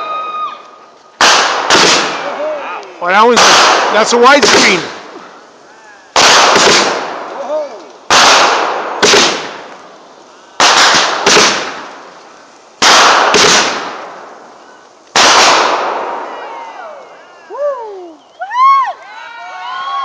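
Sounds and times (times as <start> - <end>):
fireworks bangs: 0.0 - 18.2.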